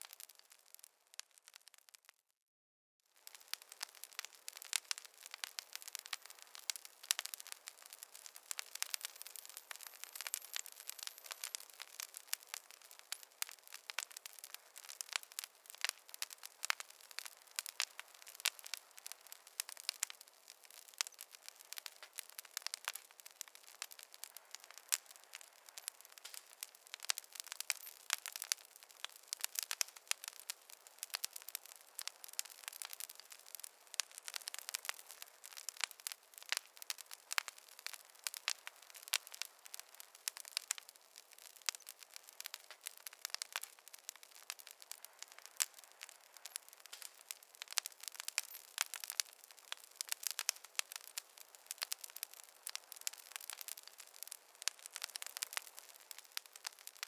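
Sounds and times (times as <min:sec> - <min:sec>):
campfire crackling and popping: 0:00.0 - 0:02.2, 0:03.1 - 0:57.0.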